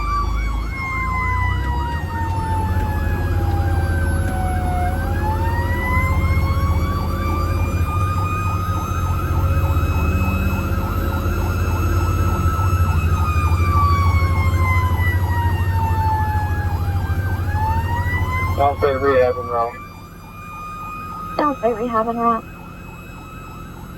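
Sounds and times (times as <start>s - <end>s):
siren wailing: 0.0s - 23.9s
siren yelp: 0.0s - 23.9s.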